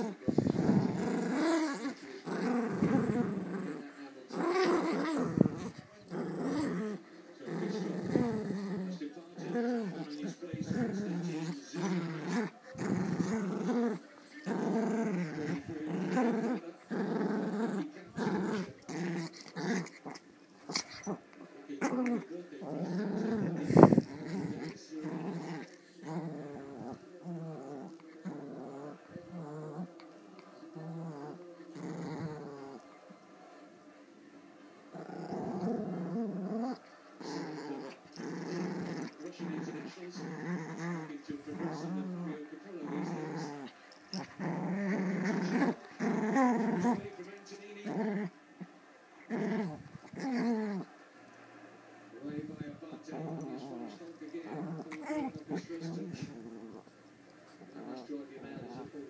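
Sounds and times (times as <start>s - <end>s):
small dog play-growling: 0.0s - 59.0s.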